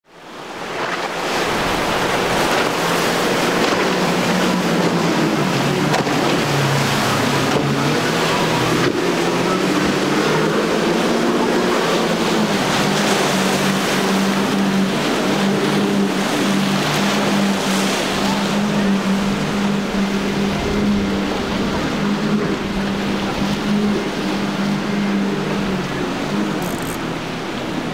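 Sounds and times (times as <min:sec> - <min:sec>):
boat engines droning: 0:00.1 - 0:27.9
spray and waves rushing: 0:00.1 - 0:27.9.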